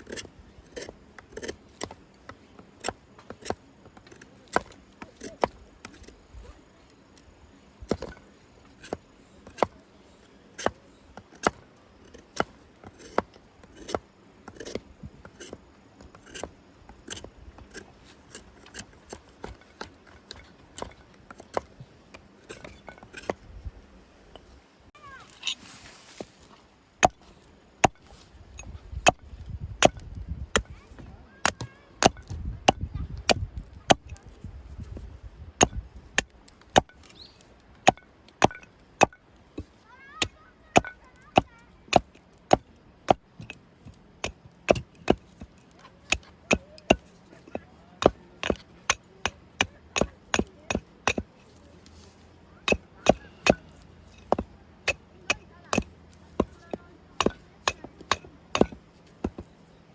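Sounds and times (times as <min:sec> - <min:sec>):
axe chopping wood: 0:00.1 - 0:06.1, 0:07.8 - 0:09.8, 0:10.6 - 0:23.4, 0:27.0 - 0:34.3, 0:35.6 - 0:37.2, 0:37.8 - 0:59.6.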